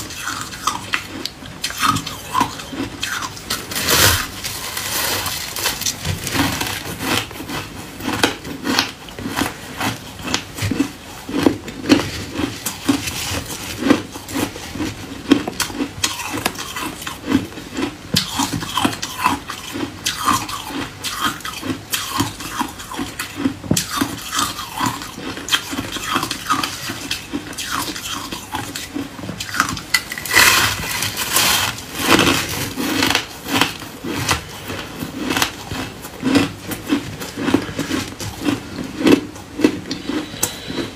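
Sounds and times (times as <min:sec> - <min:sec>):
ice being chewed crunching: 0:00.0 - 0:40.9.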